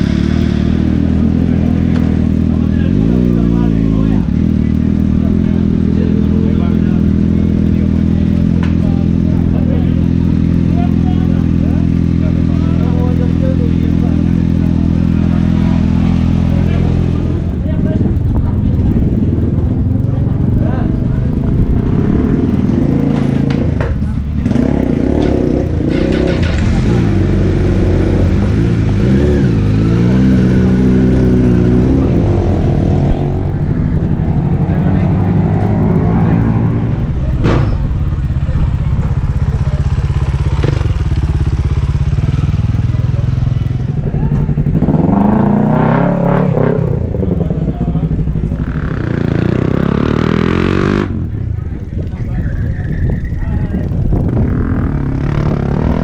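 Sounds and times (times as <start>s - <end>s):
motorcycle engine revving: 0.0s - 56.0s
motorcycle engines running: 0.0s - 56.0s.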